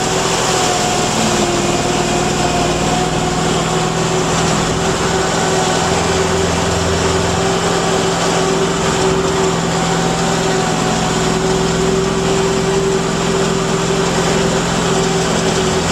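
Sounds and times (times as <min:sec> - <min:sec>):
vehicle engine running steadily: 0:00.0 - 0:15.9.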